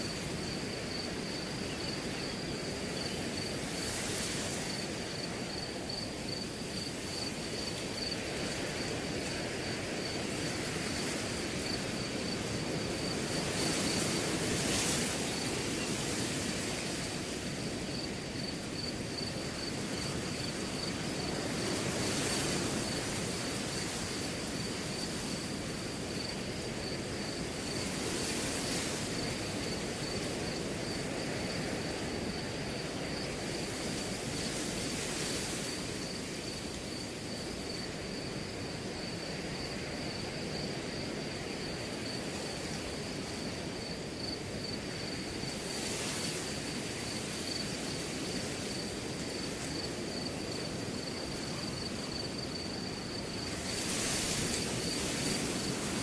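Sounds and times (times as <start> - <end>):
cricket trilling: 0.0 - 56.0
wind rustling grass: 0.0 - 56.0.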